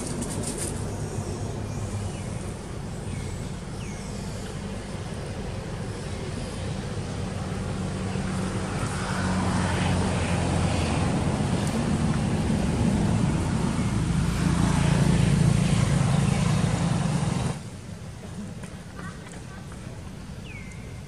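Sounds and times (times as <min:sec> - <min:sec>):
low engine drone: 0:00.0 - 0:18.8.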